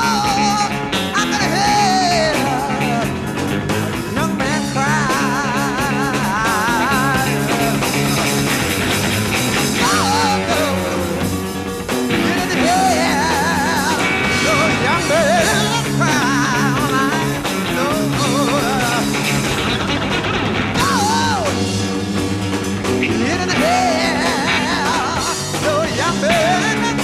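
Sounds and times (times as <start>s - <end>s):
electric guitar with vibrato: 0.0s - 27.0s
rock band playing: 0.0s - 27.0s.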